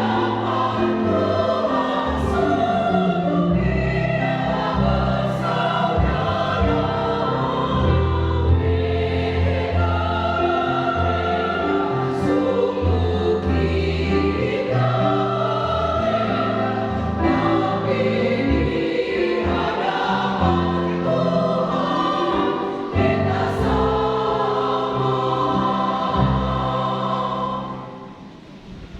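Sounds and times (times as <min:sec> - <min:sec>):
church choir singing: 0:00.0 - 0:28.9.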